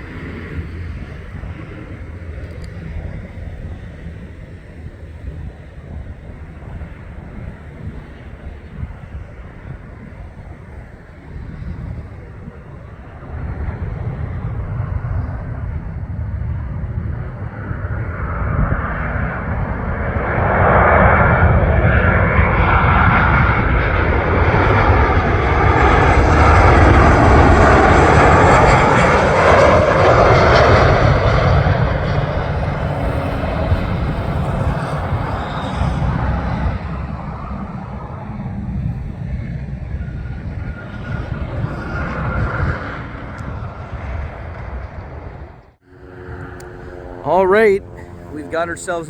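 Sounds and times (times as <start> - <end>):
wind rumbling on microphone: 0.0 - 47.2
jet passing low overhead: 0.0 - 49.0.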